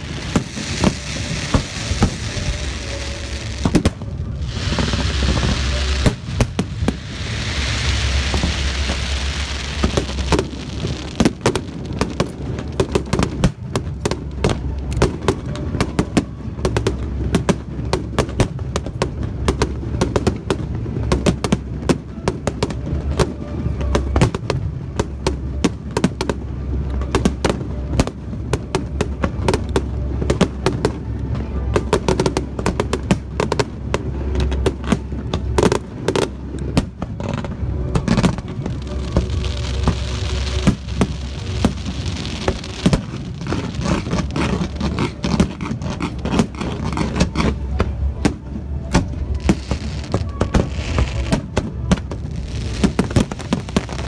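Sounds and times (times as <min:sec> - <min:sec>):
continuous low rumble: 0:00.0 - 0:54.0
fireworks bursting: 0:00.0 - 0:54.0.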